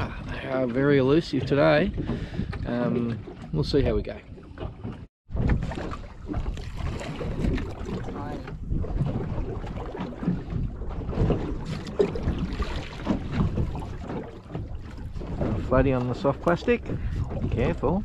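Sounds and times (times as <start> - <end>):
water washing around boat: 0.0 - 18.0
wind buffeting microphone: 0.0 - 18.0.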